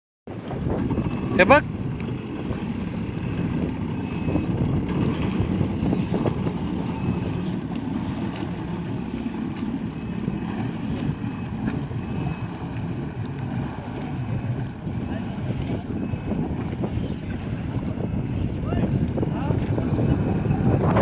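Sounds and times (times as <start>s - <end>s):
jet ski running: 0.3s - 21.0s
wind buffeting microphone: 0.3s - 21.0s.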